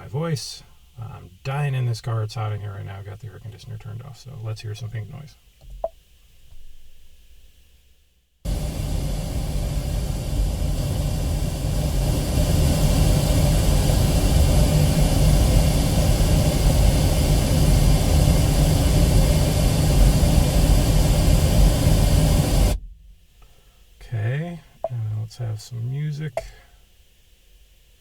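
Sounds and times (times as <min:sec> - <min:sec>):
pink noise test signal hiss: 0:00.0 - 0:28.0.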